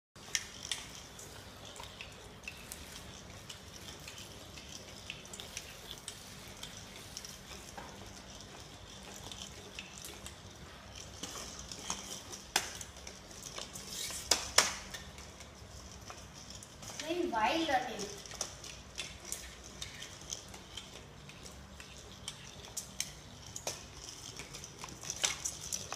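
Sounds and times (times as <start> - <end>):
kitten batting toy on tiled floor: 0.2 - 25.9.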